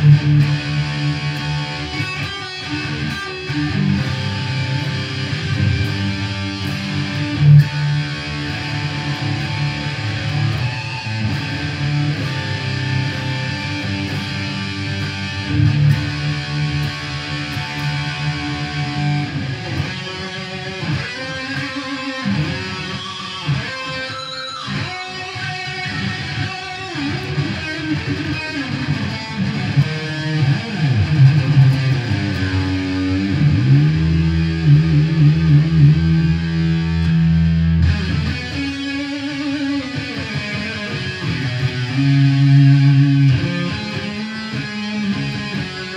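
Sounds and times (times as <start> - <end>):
electric guitar noodling: 0.0 - 45.9.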